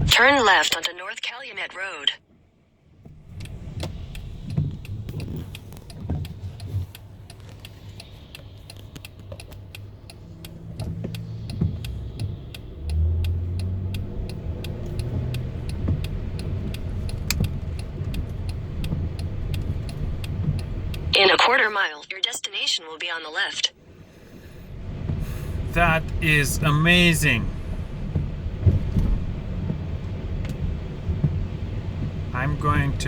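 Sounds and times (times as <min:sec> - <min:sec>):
road noise: 0:00.0 - 0:33.0
car engine: 0:01.8 - 0:21.3, 0:23.8 - 0:33.0
turn signal ticking: 0:02.9 - 0:21.2, 0:23.8 - 0:33.0.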